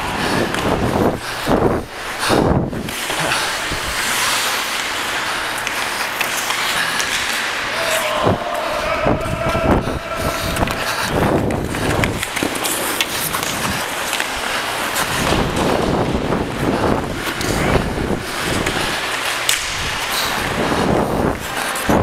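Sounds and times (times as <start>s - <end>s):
skate blades scraping ice: 0.1s - 8.3s, 9.6s - 21.9s
sticks and puck clacking: 2.1s - 22.0s.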